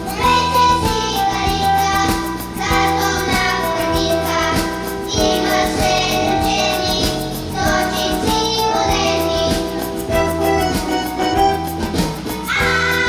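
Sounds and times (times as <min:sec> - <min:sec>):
children singing in unison: 0:00.0 - 0:11.4, 0:12.5 - 0:13.0
instrumental accompaniment with beat: 0:00.0 - 0:13.0.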